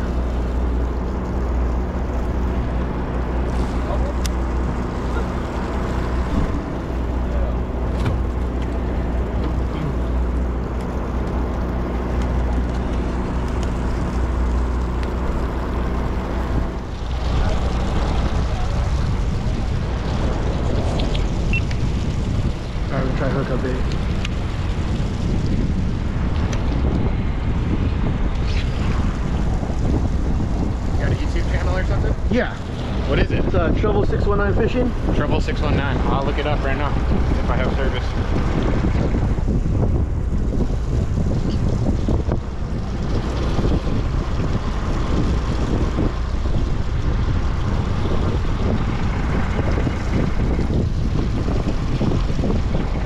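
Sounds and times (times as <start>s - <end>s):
boat and sea rumble: 0.0s - 53.0s
wind buffeting microphone: 0.0s - 53.0s.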